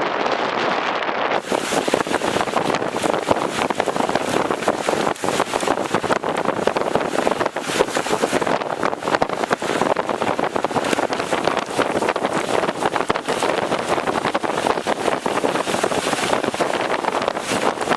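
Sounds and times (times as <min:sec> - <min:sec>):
storm wind on microphone: 0:00.0 - 0:17.9.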